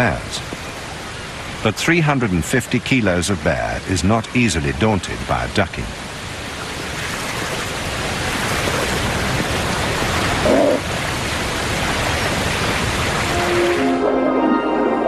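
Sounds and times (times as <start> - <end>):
rushing whitewater: 0.0 - 15.0.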